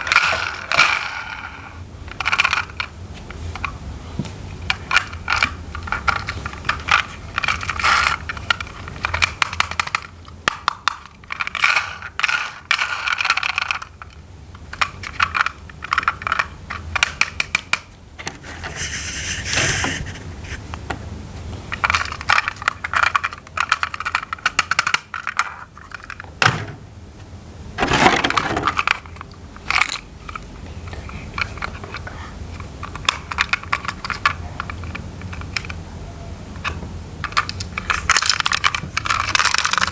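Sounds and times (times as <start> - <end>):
plastic toy parts clicking and rattling: 0.0 - 2.9, 4.6 - 17.9, 21.7 - 26.3, 27.8 - 35.8, 36.6 - 39.9.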